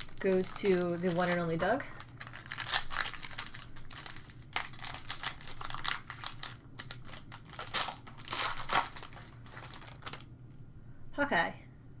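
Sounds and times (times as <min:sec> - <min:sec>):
wrapper crinkling and tearing: 0:00.0 - 0:10.3.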